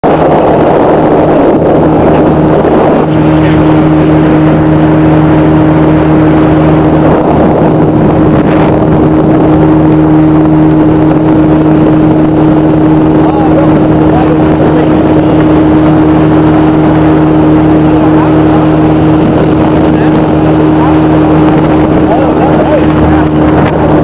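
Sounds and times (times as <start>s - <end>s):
motorboat engine humming: 0.0s - 24.0s
wind and water rushing: 0.0s - 24.0s.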